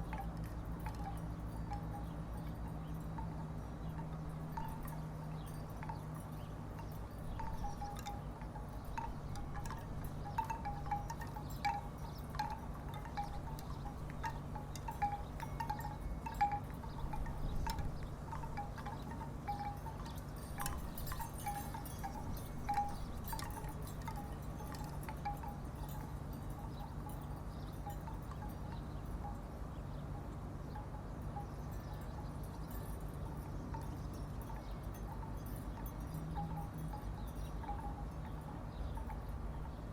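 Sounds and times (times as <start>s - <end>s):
steady low hum: 0.0s - 39.9s
wooden wind chimes clacking: 0.0s - 39.9s.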